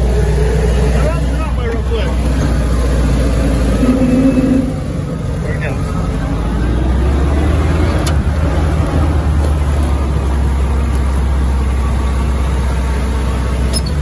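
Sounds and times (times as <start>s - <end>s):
jeep engine running: 0.0s - 14.0s.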